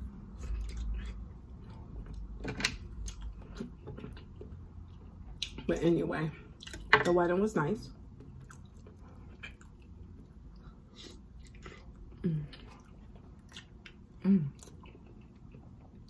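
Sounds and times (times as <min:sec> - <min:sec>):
person chewing with wet clicks: 0:00.3 - 0:02.3, 0:02.9 - 0:05.7, 0:06.5 - 0:06.9, 0:08.1 - 0:16.0.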